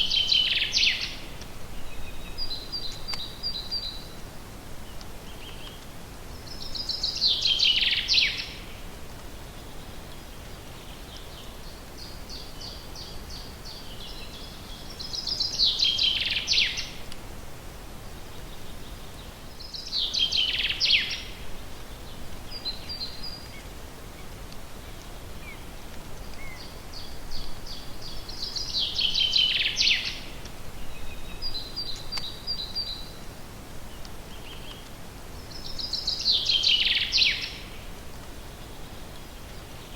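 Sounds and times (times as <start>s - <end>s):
songbird singing: 0.0s - 17.2s, 18.1s - 39.9s.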